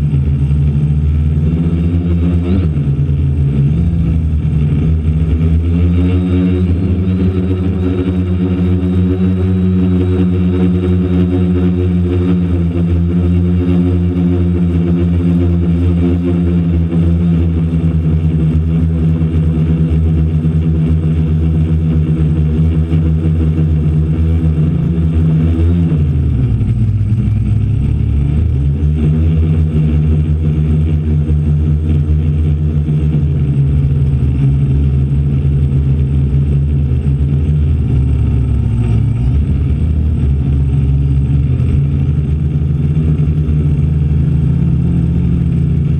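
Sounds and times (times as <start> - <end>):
quadcopter motors droning: 0.0 - 45.9.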